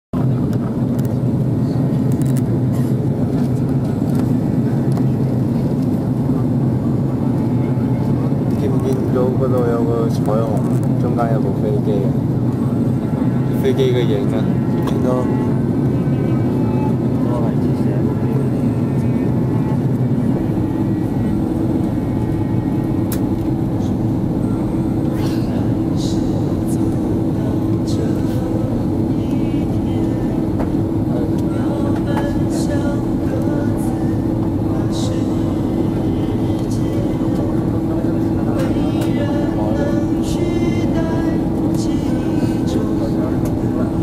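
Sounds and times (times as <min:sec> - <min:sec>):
airflow over fuselage: 0:00.2 - 0:44.0
airliner cabin engine rumble: 0:00.2 - 0:44.0.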